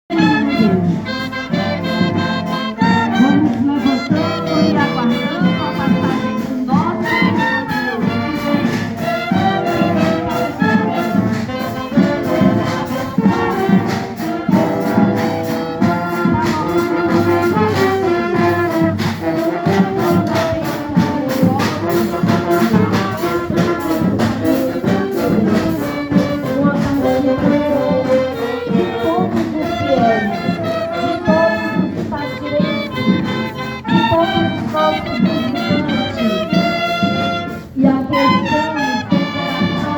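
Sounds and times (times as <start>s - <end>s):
brass band playing a march: 0.1s - 39.9s.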